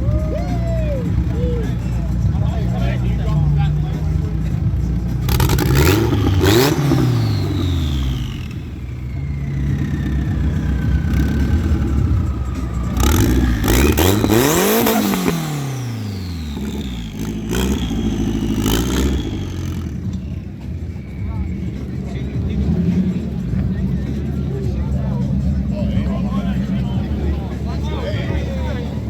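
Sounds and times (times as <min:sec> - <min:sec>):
high whine: 0:00.0 - 0:24.5
car engine revving: 0:00.0 - 0:29.0.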